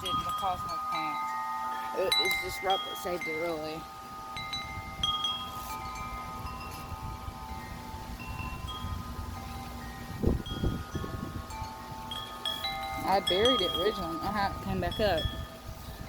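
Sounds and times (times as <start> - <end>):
metal wind chimes ringing: 0.0 - 16.0
wind buffeting microphone: 0.0 - 16.0.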